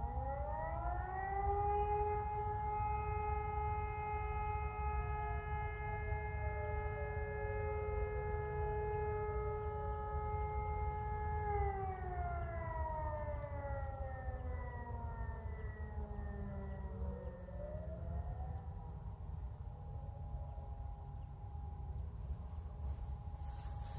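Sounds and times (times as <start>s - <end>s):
civil defense siren winding: 0.0s - 23.9s.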